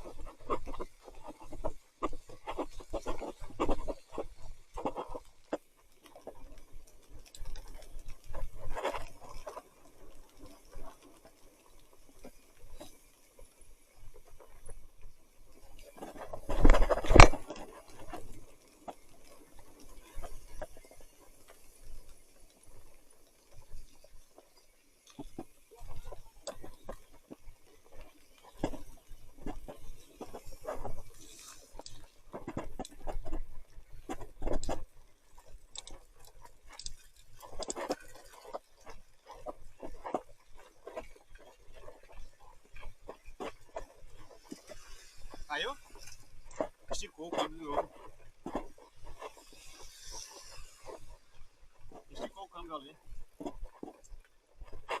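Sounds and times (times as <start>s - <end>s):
bike clicks and rattles: 0.0s - 55.0s.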